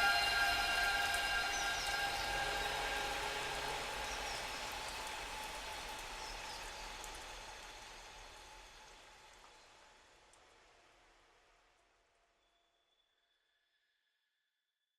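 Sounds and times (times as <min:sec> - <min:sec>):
hiss-like ambient texture: 0:00.0 - 0:12.2.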